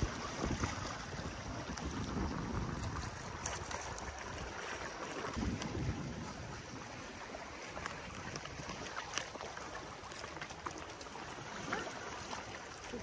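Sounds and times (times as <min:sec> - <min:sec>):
small waves lapping: 0:00.0 - 0:13.0
water splashes and drips: 0:00.0 - 0:13.0.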